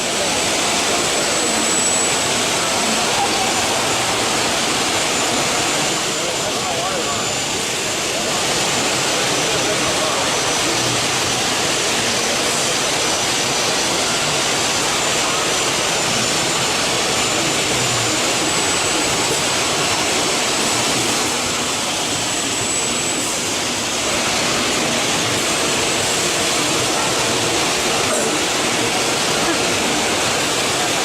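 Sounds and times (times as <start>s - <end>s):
faint high whine: 0.0s - 31.0s
machining center rushing noise: 0.0s - 31.0s.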